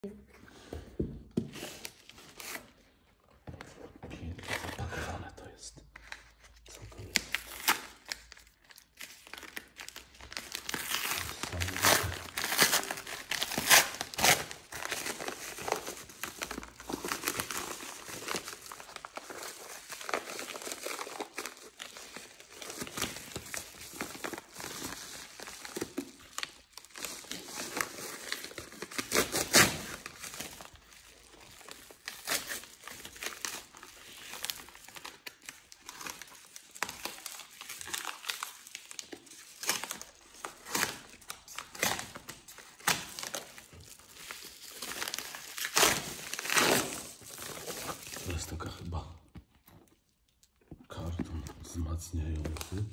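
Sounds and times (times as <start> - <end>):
paper envelope crinkling and tearing: 4.1 - 49.0, 51.0 - 52.9.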